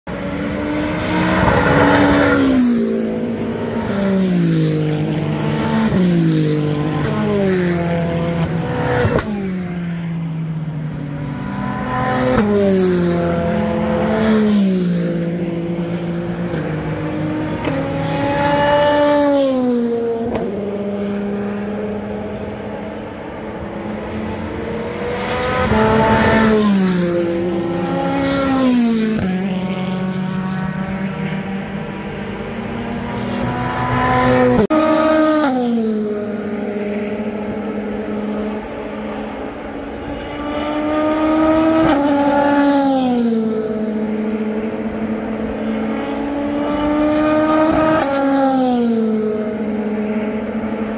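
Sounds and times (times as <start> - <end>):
race cars passing: 0.1 - 50.9.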